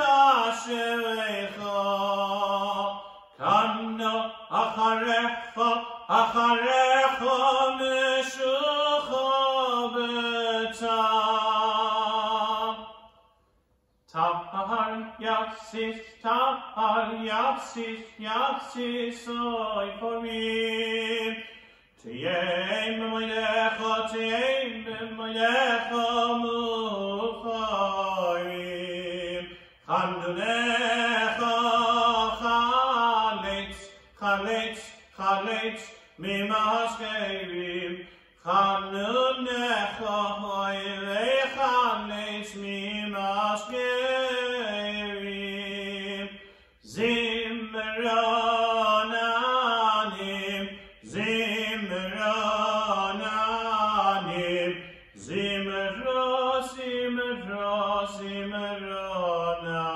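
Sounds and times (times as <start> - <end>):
man chanting: 0.0 - 13.0, 14.1 - 59.9.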